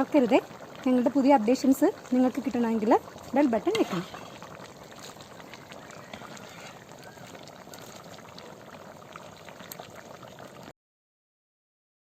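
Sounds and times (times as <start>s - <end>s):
curry bubbling in a pan: 0.0s - 10.7s.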